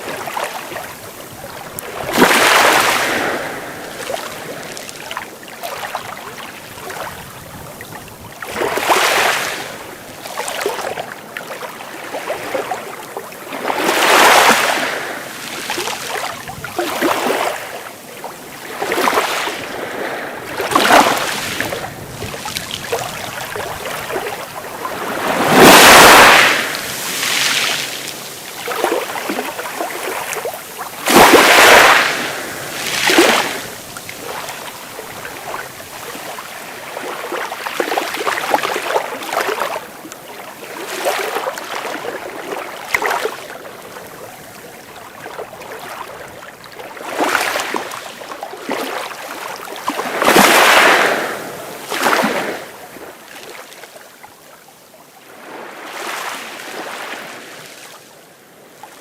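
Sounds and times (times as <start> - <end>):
sea waves breaking: 0.0 - 54.2, 55.2 - 59.0.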